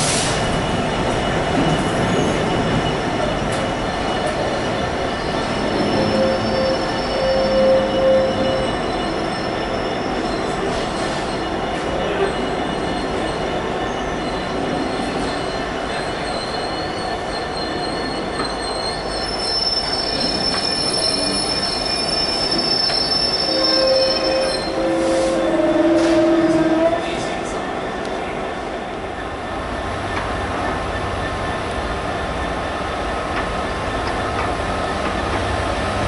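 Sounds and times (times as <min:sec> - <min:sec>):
high wheel squeal: 0:00.0 - 0:33.0
train wheels rumbling on rails: 0:00.0 - 0:36.0.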